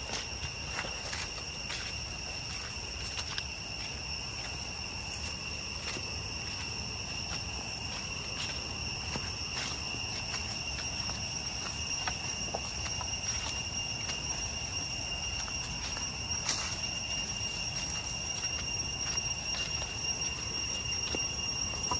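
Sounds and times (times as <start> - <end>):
cicadas droning: 0.0 - 21.9
footsteps on dry leaves: 0.0 - 21.9.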